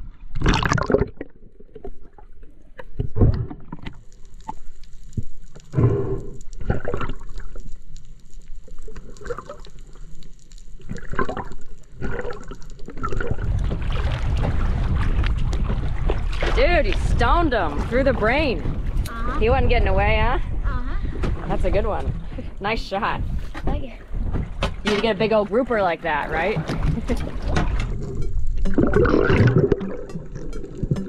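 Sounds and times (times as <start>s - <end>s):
underwater bubbling: 0.0s - 31.0s.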